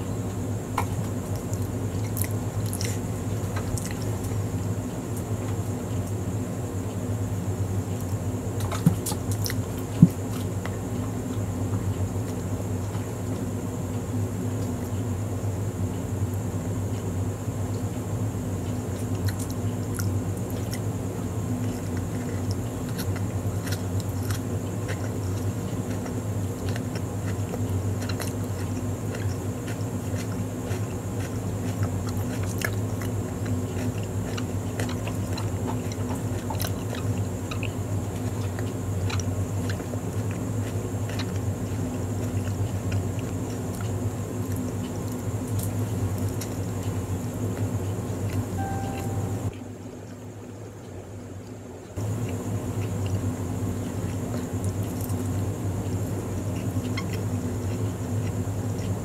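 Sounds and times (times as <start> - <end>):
low background hum: 0.0 - 59.0
chewing with wet mouth clicks: 0.8 - 6.0, 8.0 - 15.0, 18.6 - 49.5, 50.8 - 59.0.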